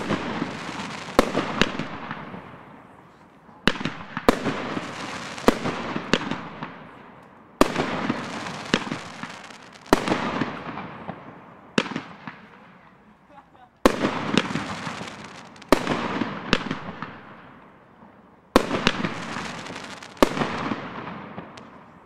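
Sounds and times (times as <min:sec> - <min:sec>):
crackling hiss: 0:00.0 - 0:22.0
fireworks bangs: 0:00.0 - 0:22.0.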